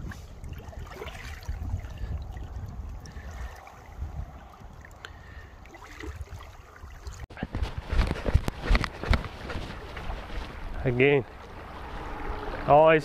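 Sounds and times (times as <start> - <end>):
river water trickling: 0.0 - 7.3, 9.7 - 13.0
wind buffeting microphone: 0.0 - 13.0.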